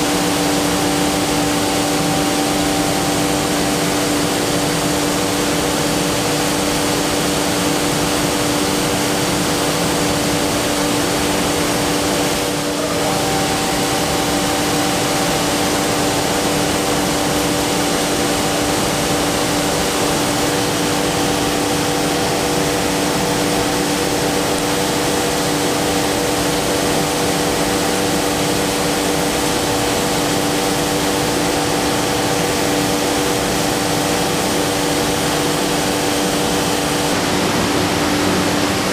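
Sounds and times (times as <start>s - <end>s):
machine whirring roar: 0.0s - 38.9s
steady machine tones: 0.0s - 38.9s.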